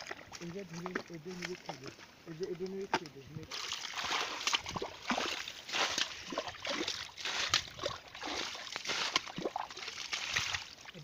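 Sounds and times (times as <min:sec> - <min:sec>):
muddy water sloshing and splashing: 0:00.0 - 0:11.0.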